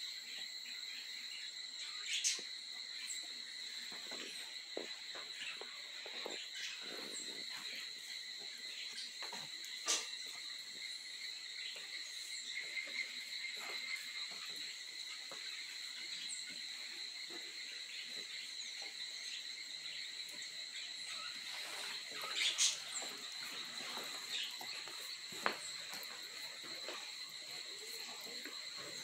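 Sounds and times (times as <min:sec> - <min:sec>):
insect chorus droning: 0:00.0 - 0:29.0.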